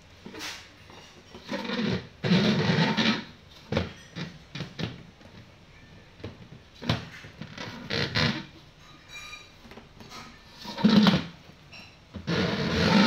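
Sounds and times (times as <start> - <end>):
plastic stool scraping on tile: 0.2 - 5.5, 6.2 - 8.6, 9.6 - 11.5, 12.1 - 13.0.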